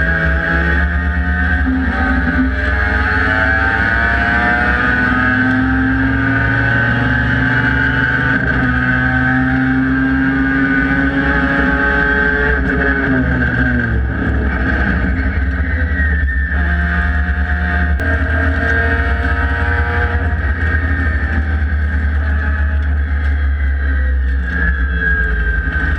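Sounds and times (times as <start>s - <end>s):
race car engines: 0.0s - 25.9s.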